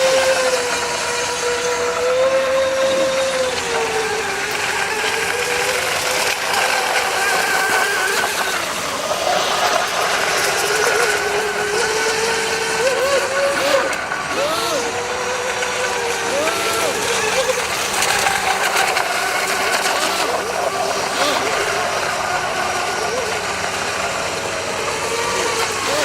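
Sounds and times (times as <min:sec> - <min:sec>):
model boat motors whining: 0:00.0 - 0:26.0.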